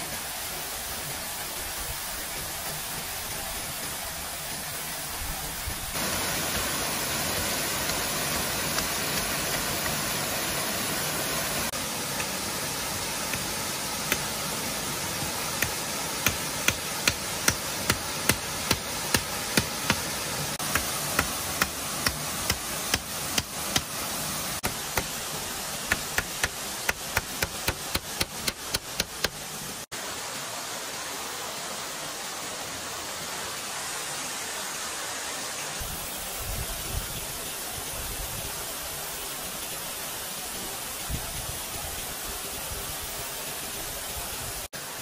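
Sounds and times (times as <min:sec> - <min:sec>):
steady hiss: 0:00.0 - 0:45.0.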